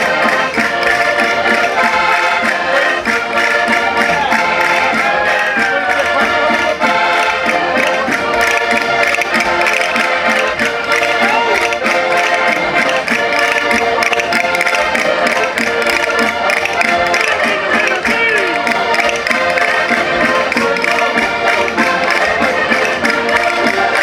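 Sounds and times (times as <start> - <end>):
concertinas playing folk tune: 0.0 - 24.0.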